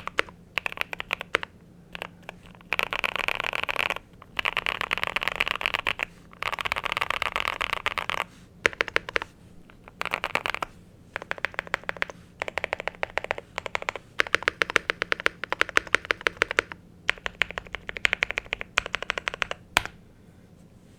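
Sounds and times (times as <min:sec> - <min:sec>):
mechanical keyboard typing: 0:00.0 - 0:20.0.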